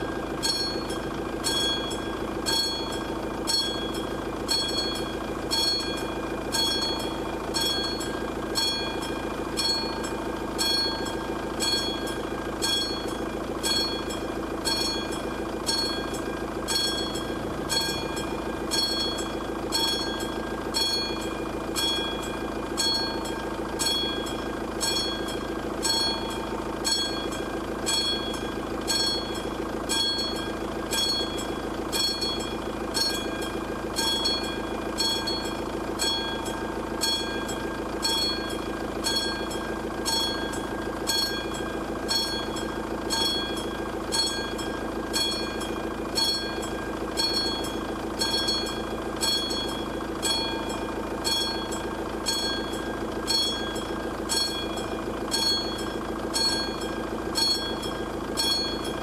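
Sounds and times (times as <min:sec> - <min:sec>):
level crossing bell ringing: 0:00.0 - 0:59.0.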